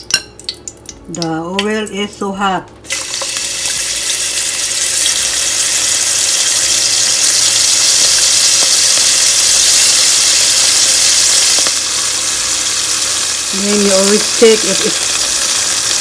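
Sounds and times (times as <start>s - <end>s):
chicken sizzling in hot oil: 2.9s - 16.0s.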